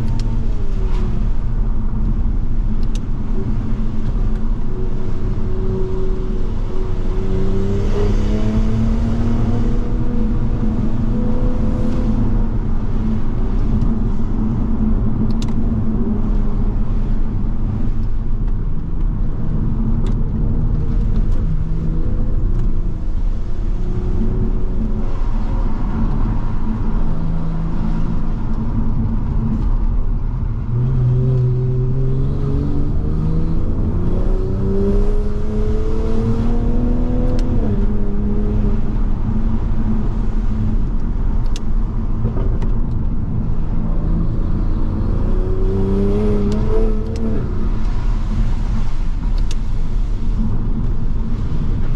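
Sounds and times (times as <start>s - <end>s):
car engine accelerating: 0.0s - 51.9s
tyre noise on wet road: 0.0s - 51.9s.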